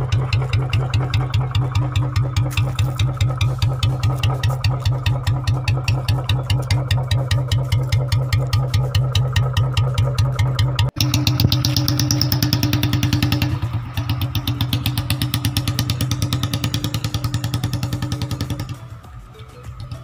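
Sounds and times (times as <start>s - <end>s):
motorcycle engine thumping: 0.0s - 20.0s.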